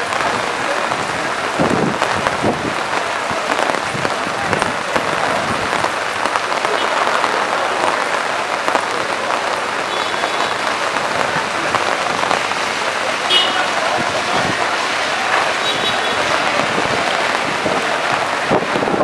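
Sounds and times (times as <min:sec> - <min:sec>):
heavy rain on street: 0:00.0 - 0:19.0.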